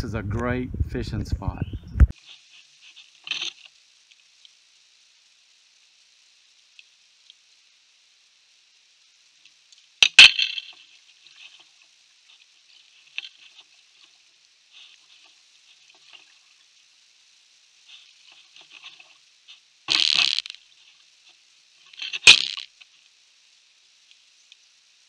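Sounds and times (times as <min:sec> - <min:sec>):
faint water crackling: 0:02.1 - 0:25.0.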